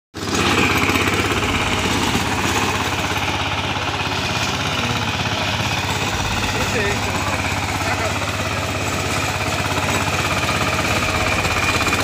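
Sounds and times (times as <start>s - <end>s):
power tiller engine pulsing: 0.2s - 12.0s.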